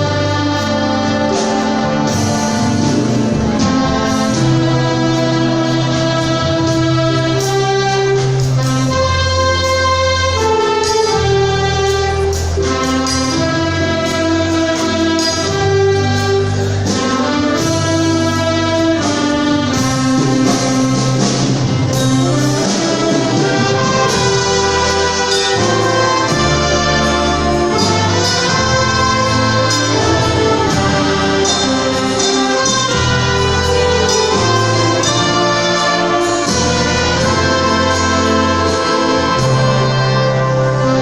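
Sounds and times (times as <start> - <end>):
bass line: 0.0 - 41.0
brass and saxophone melody: 0.0 - 41.0.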